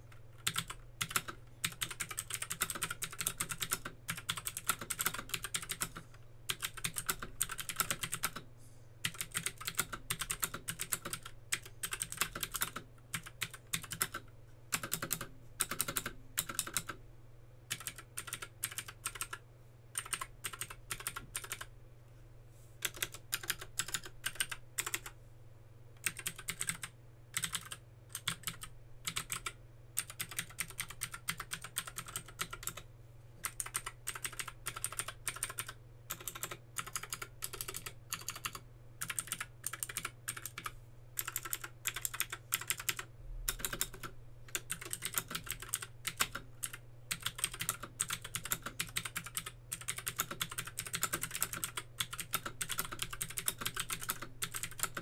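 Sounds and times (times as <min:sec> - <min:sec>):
mechanical keyboard typing: 0:00.1 - 0:08.4, 0:09.0 - 0:17.0, 0:17.7 - 0:19.4, 0:20.0 - 0:21.7, 0:22.8 - 0:25.2, 0:26.0 - 0:32.8, 0:33.4 - 0:55.0.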